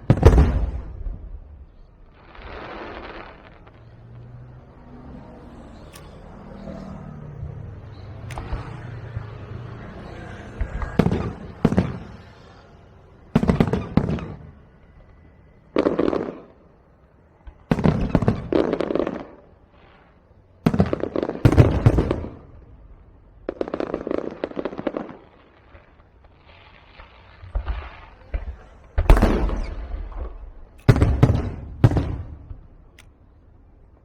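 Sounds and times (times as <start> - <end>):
fireworks banging and crackling: 0.0 - 34.0.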